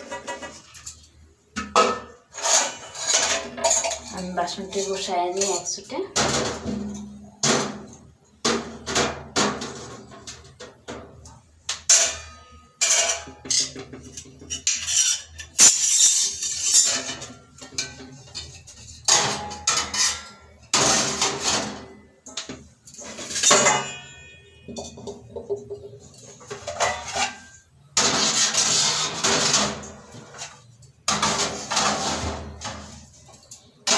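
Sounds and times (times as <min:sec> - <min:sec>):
steel dishes clanking on rack: 0:00.0 - 0:07.9, 0:11.8 - 0:33.9.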